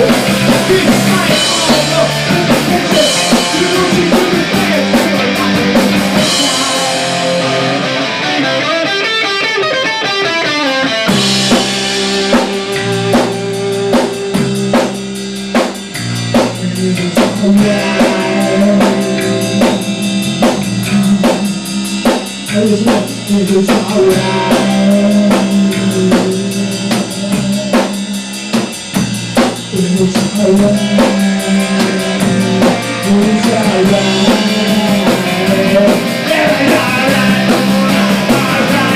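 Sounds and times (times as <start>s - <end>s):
steady drum beat: 0.0s - 8.4s, 11.0s - 38.9s
stepping bass line: 0.0s - 8.4s, 11.1s - 27.9s, 28.7s - 38.9s
rock band playing: 0.0s - 38.9s.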